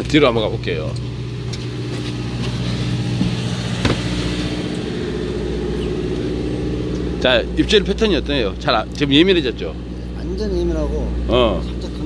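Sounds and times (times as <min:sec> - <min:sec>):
boat engine running low: 0:00.0 - 0:12.0.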